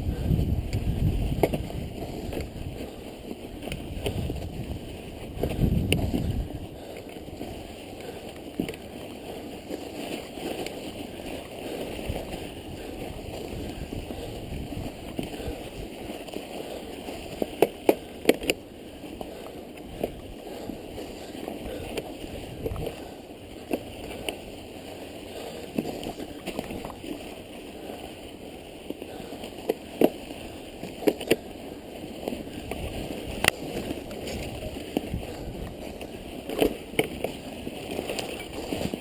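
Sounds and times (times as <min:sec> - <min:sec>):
bike tyres churning through snow: 0:00.0 - 0:39.0.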